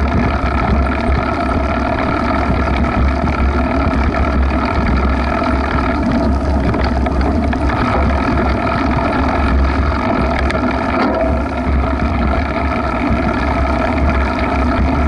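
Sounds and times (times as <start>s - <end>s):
constant higher hum: 0.0s - 15.0s
wind rumble on microphone: 0.0s - 15.0s.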